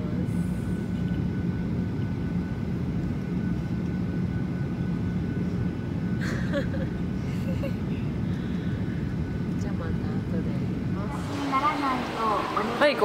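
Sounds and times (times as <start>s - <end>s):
engine and airflow rumble: 0.0s - 13.0s.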